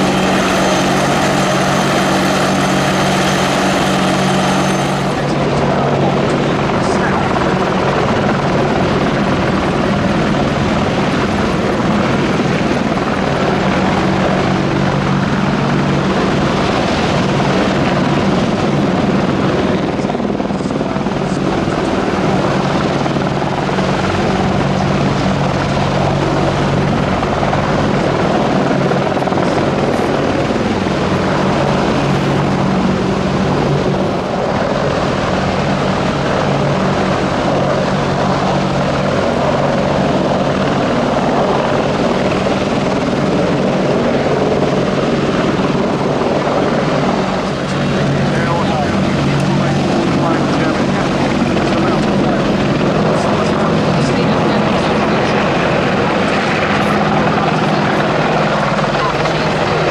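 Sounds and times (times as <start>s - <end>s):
helicopter rotor drone: 0.0s - 59.9s.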